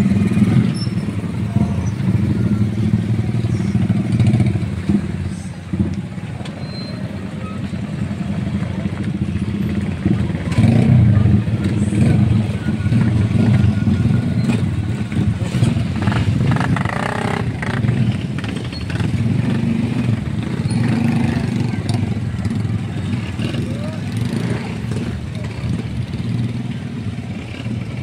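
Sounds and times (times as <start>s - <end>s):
motorcycle engines idling: 0.0s - 28.0s.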